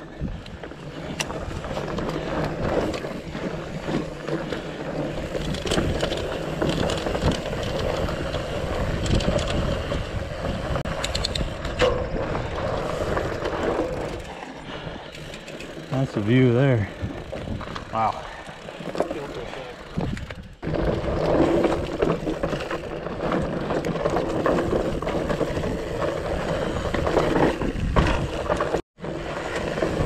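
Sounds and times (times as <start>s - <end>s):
bike tyres rolling on dirt and rock: 0.0s - 30.0s
bike knocks and rattles: 0.2s - 14.4s, 15.2s - 28.8s.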